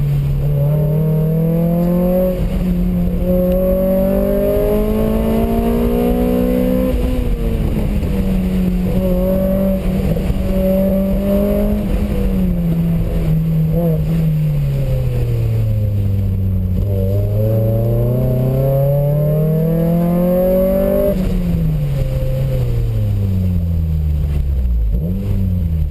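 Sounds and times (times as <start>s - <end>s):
car engine revving: 0.0s - 25.9s
road and wind noise: 0.0s - 25.9s.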